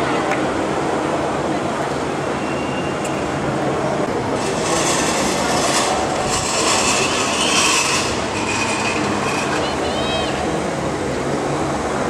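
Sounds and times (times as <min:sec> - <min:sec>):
protest crowd street noise: 0:00.0 - 0:12.0.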